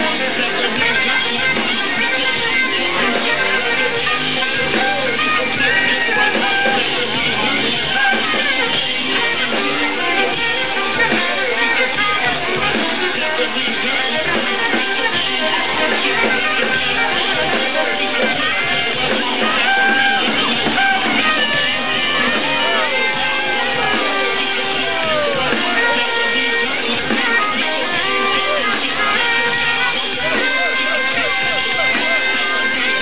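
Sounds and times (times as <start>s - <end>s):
electronic dance music: 0.0s - 33.0s
saxophone: 0.0s - 33.0s.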